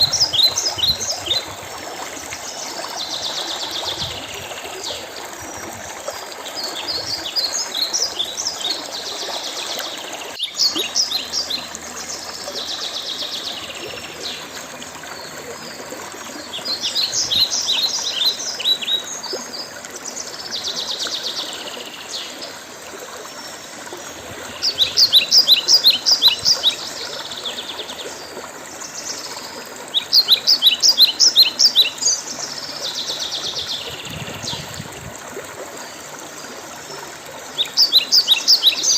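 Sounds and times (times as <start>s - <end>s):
songbirds singing: 0.0s - 22.7s, 23.3s - 38.9s
stream trickling: 0.0s - 38.9s.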